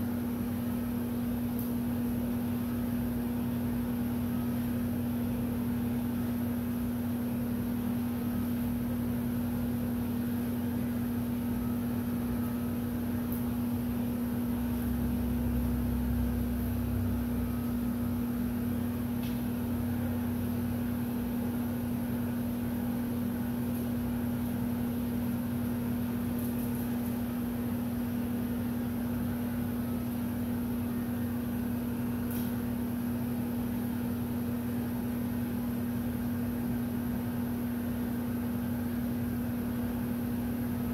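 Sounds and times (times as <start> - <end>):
heat gun fan hum: 0.0 - 40.9.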